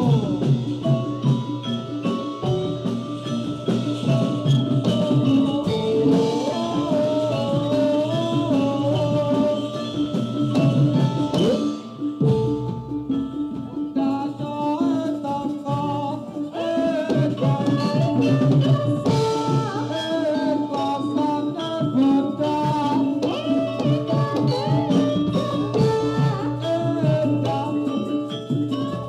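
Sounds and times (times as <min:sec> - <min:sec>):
drums: 0:00.0 - 0:29.0
wavering melodic line: 0:00.0 - 0:29.0.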